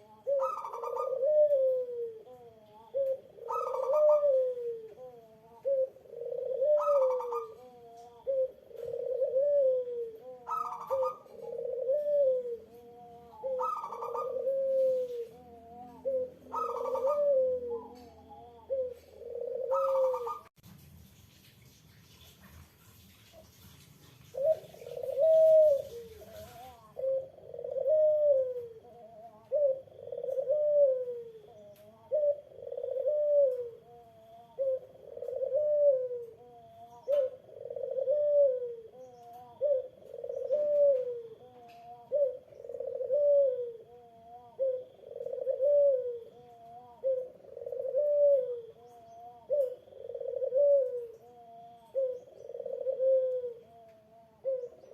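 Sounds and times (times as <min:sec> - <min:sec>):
dove cooing: 0:00.0 - 0:20.6, 0:24.2 - 0:54.9.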